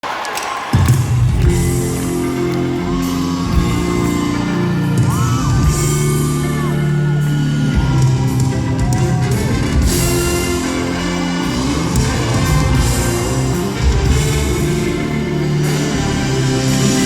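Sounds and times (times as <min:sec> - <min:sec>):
crowd whooping: 0:00.0 - 0:17.0
live band playing: 0:00.8 - 0:17.0.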